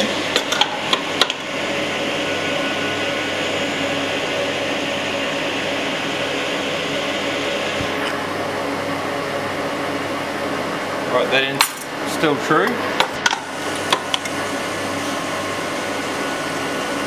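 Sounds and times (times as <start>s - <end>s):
grinder machine humming: 0.0s - 17.0s.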